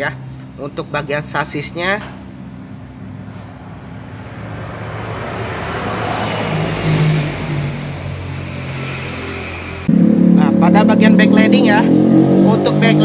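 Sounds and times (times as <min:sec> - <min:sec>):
vehicle passing by: 0:02.4 - 0:13.0.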